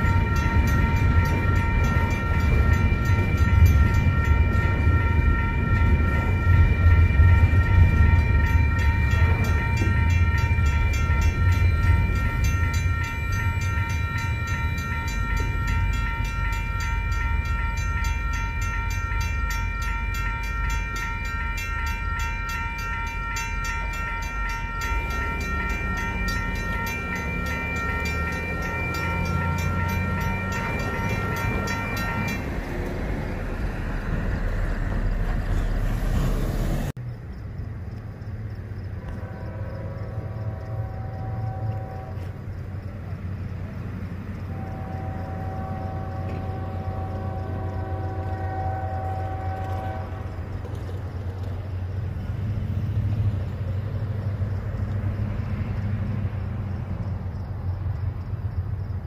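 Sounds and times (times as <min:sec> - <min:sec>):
distant locomotive horn blasts: 0:00.0 - 0:35.9, 0:38.9 - 0:51.1
railroad crossing bell ringing: 0:00.0 - 0:36.2, 0:38.9 - 0:59.0
road vehicles passing: 0:00.0 - 0:59.0.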